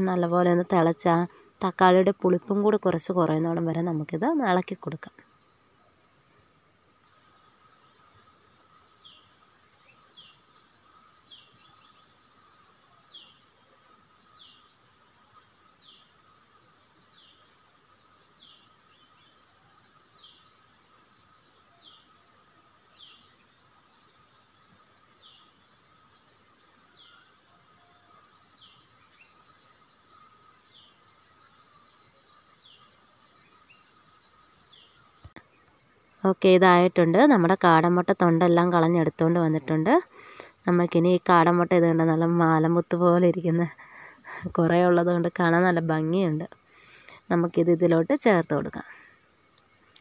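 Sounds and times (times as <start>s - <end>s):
faint bird chirps: 0.0s - 50.0s
thin insect drone: 0.0s - 50.0s.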